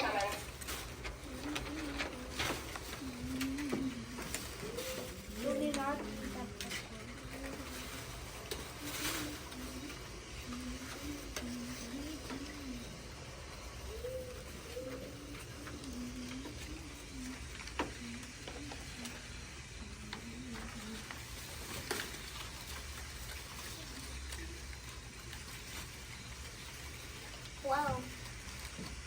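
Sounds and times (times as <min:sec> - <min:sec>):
faint rustling: 0:00.0 - 0:29.0.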